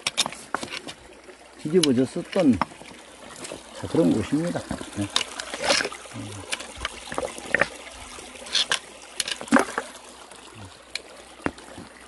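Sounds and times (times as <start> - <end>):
stream trickling over rocks: 0.0 - 12.0.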